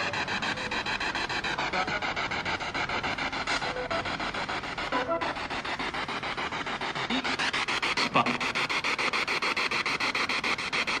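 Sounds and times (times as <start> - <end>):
chopped radio static: 0.0 - 11.0
snatches of broadcast sound: 0.0 - 11.0.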